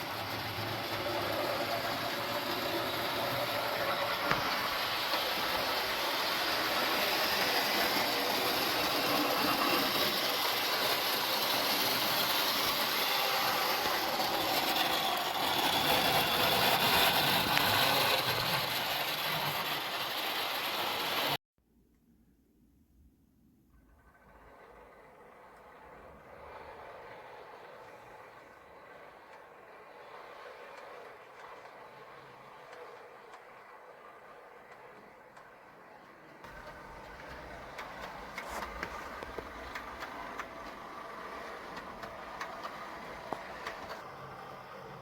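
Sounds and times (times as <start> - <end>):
steady mechanical running noise: 0.0 - 21.4, 23.9 - 45.0.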